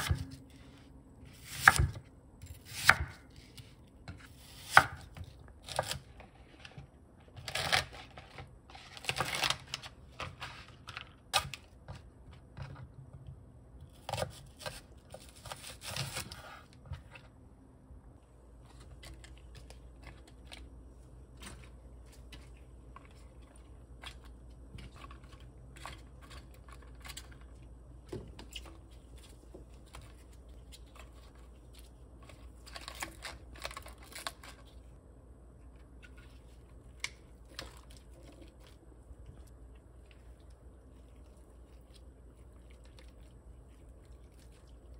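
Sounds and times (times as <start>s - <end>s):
low steady hum: 0.0s - 44.9s
vegetables rustling and crinkling: 5.0s - 12.8s, 13.9s - 17.4s, 18.5s - 35.0s, 35.7s - 44.9s.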